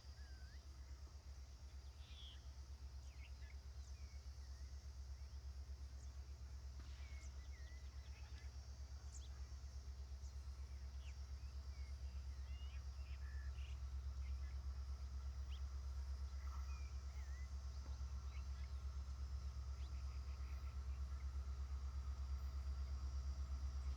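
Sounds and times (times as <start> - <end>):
low pulsing hum: 0.0 - 23.9.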